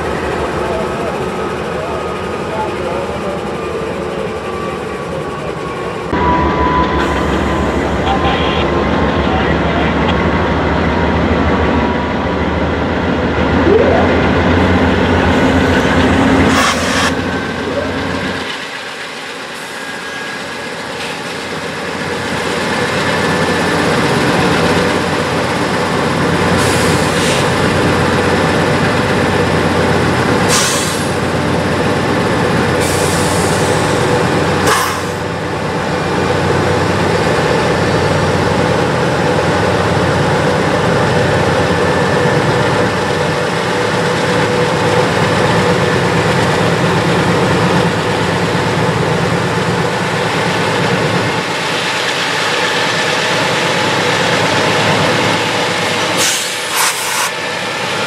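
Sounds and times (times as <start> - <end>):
diesel locomotives under load: 0.0 - 58.0
train rolling: 0.0 - 58.0.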